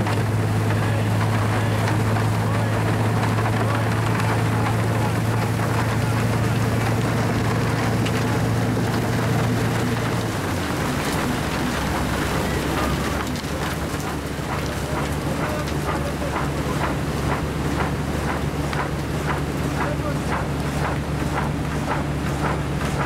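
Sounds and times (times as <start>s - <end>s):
snowplow engine hum: 0.0s - 23.0s.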